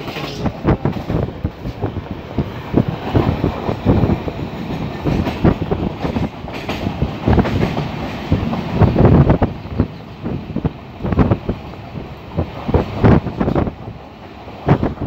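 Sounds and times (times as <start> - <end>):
passenger train rumbling: 0.0 - 15.0
wheels clattering on rails: 0.0 - 15.0.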